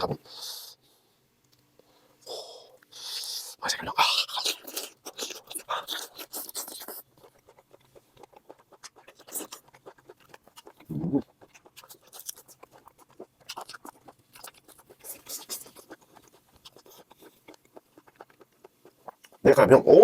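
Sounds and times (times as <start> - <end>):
person chewing: 2.8 - 19.8.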